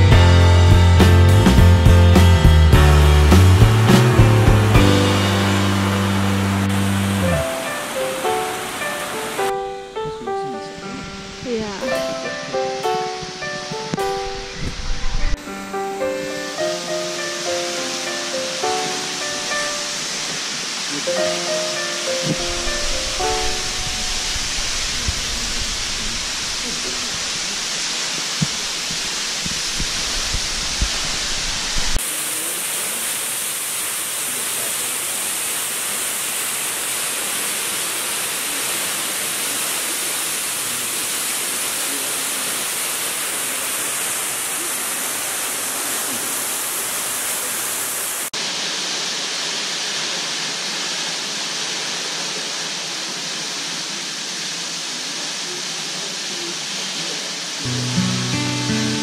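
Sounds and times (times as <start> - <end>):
waterfall rushing: 2.6 - 59.0.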